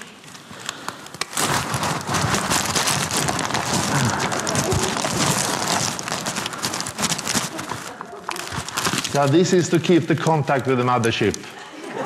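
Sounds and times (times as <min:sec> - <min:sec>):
aluminium foil crinkling: 0:00.0 - 0:11.6.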